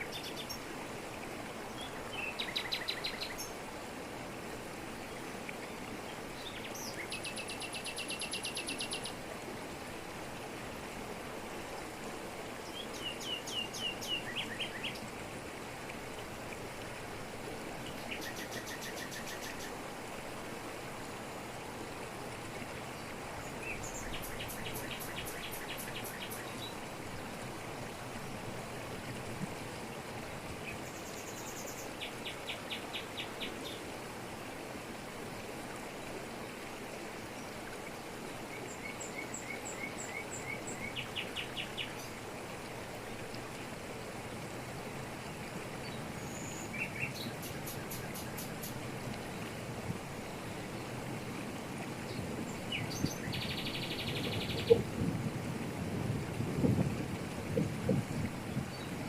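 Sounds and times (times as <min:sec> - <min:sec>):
waterfall pouring over rocks: 0:00.0 - 0:59.0.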